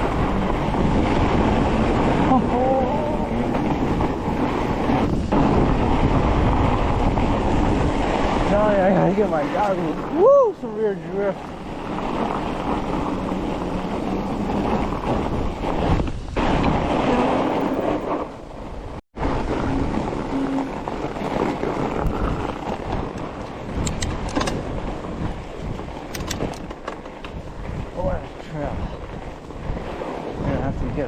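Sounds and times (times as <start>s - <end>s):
bike tyres on snow: 0.0s - 31.0s
wind rushing over microphone: 0.0s - 31.0s.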